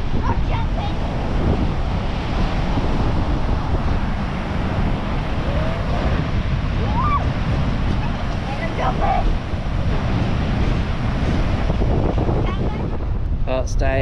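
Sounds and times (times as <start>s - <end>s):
ocean surf breaking: 0.0s - 13.4s
wind buffeting microphone: 0.0s - 14.0s.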